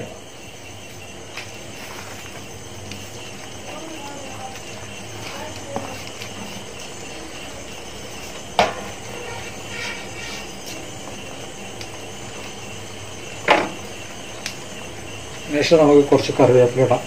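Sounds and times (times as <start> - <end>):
pot simmering with hiss: 0.0 - 17.0.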